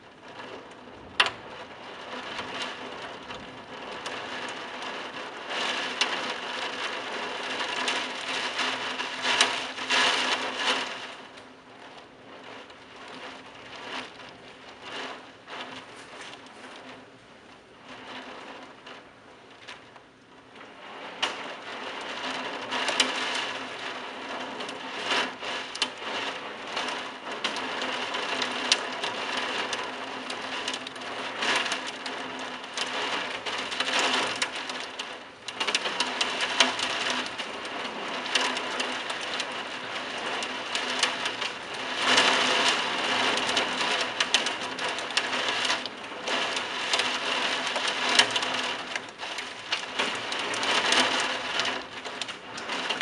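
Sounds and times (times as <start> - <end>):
close raindrop impacts: 0.0 - 53.0
heavy rain pouring: 0.0 - 53.0.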